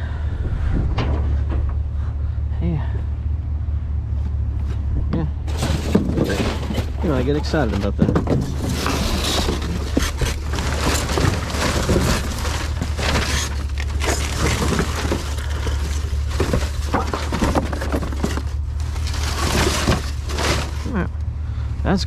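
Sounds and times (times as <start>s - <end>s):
junk clattering and crunching: 0.0s - 22.0s
low rumble: 0.0s - 22.0s.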